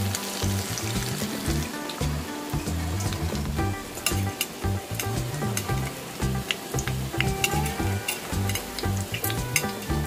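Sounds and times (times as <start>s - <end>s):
frying in hot oil: 0.0s - 10.0s.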